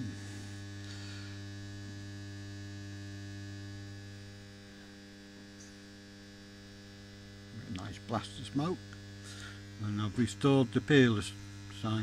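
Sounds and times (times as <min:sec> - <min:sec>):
arc lamp electrical hum: 0:00.0 - 0:12.0.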